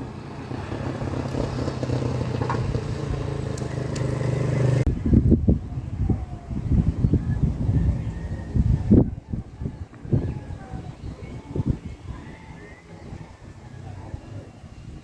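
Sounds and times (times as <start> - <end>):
uneven low rumbling: 0.0 - 15.0
vehicle engine running: 0.0 - 15.0.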